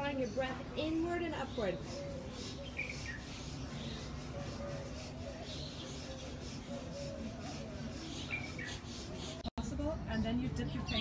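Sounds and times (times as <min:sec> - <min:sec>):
high bird chirp: 0:00.0 - 0:11.0
outdoor background hiss: 0:00.0 - 0:11.0.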